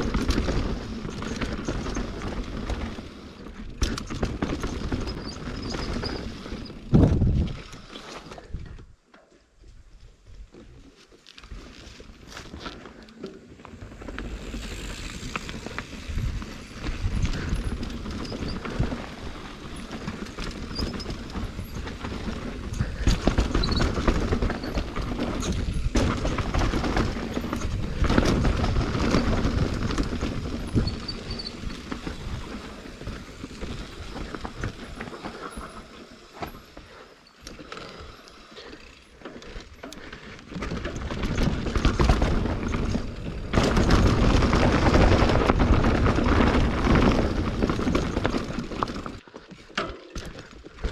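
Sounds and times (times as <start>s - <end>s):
bike knocks and rattles: 0.0s - 9.3s, 10.4s - 50.9s
bike tyres rolling over dirt: 0.0s - 50.9s.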